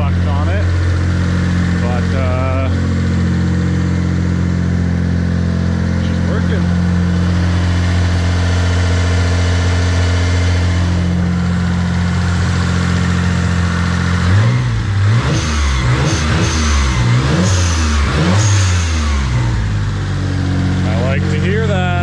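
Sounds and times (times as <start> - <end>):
car engine idling: 0.0 - 22.0
engine revving: 0.0 - 22.0.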